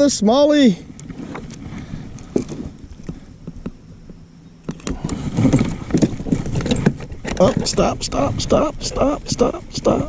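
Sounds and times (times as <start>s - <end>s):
light clicks and knocks from kayak: 0.9s - 10.0s.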